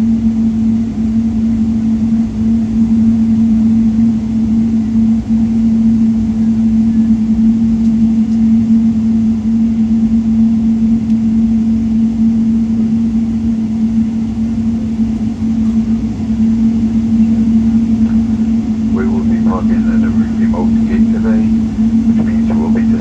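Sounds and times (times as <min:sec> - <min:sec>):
airplane cabin droning hum: 0:00.0 - 0:23.0.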